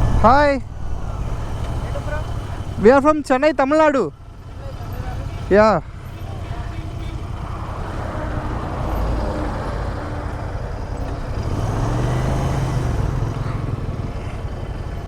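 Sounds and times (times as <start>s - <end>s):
heavy vehicle engine passing: 0.0s - 15.0s
highway traffic rumble: 0.0s - 15.0s.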